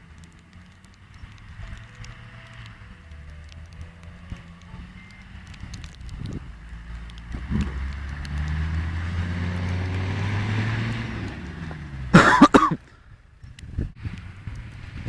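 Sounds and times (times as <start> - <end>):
car engine under throttle: 0.0 - 15.0.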